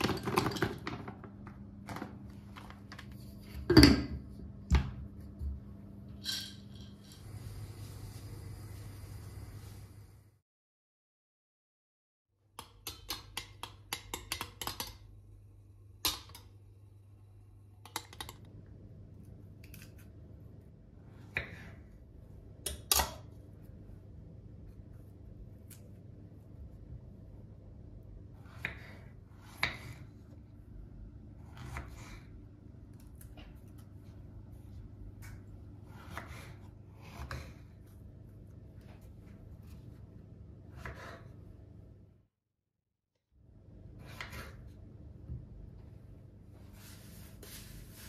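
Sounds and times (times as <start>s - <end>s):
low room hum: 0.0s - 10.4s, 12.6s - 42.4s, 43.2s - 48.0s.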